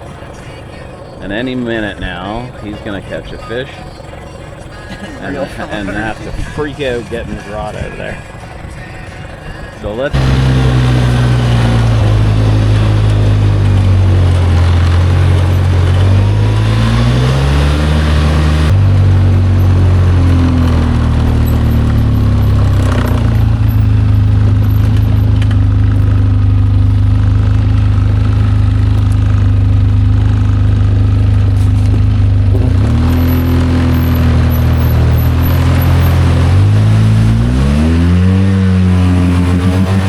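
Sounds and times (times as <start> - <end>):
outboard motor running and revving: 0.0 - 40.0.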